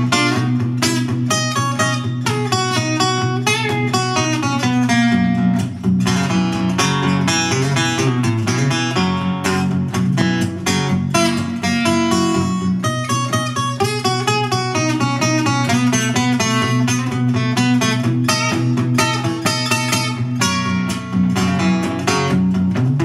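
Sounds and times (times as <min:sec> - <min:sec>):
fingerpicked acoustic guitar: 0:00.0 - 0:23.0.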